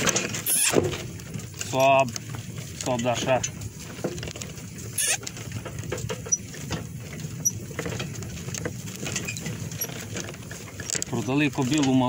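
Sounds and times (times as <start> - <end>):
cart knocking and rattling: 0.0 - 12.0.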